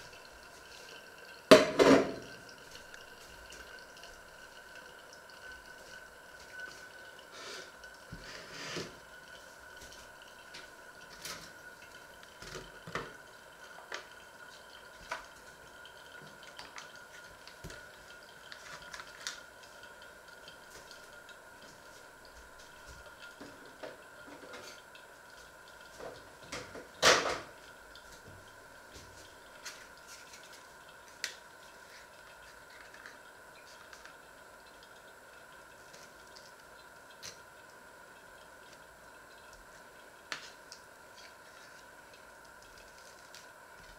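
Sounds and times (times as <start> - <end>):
faint steady whine: 0.0 - 43.9.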